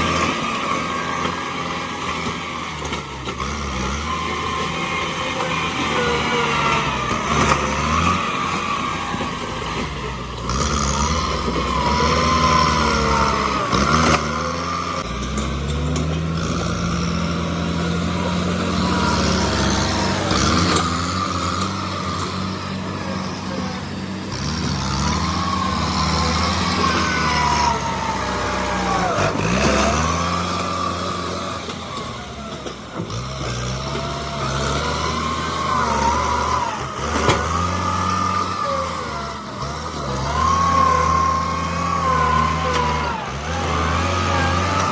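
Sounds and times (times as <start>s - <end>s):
high squeals: 0.0s - 15.0s, 16.4s - 31.4s, 34.3s - 44.9s
bulldozer diesel engine: 0.0s - 44.9s.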